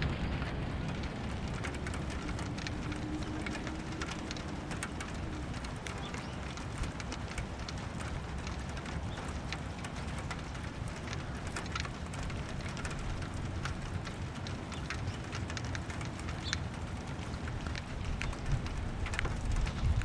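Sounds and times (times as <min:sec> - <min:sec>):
low steady rumble: 0:00.0 - 0:20.0
rain hissing: 0:00.0 - 0:20.0
raindrops ticking close by: 0:00.0 - 0:20.0.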